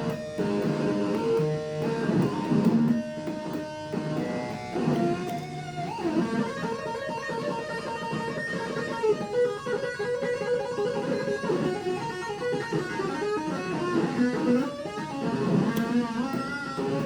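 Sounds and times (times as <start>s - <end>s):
electric guitar single notes: 0.0s - 17.0s.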